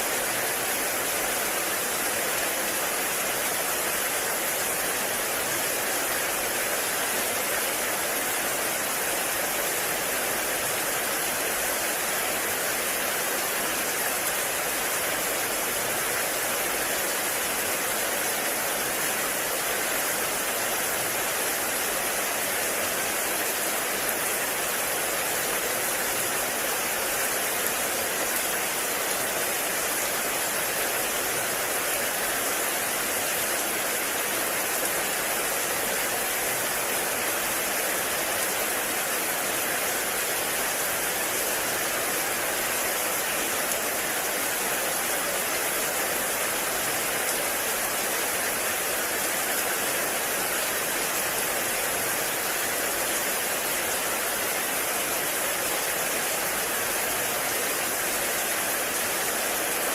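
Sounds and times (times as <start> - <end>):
heavy rain in a forest: 0.0 - 59.9.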